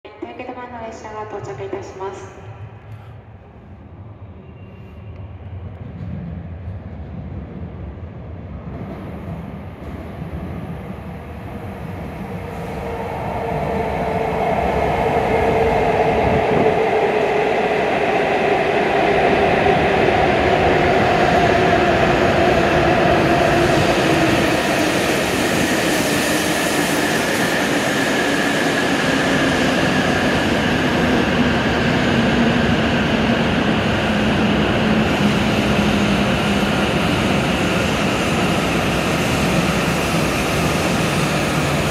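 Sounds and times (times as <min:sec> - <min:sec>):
train rushing noise: 0:01.4 - 0:41.9.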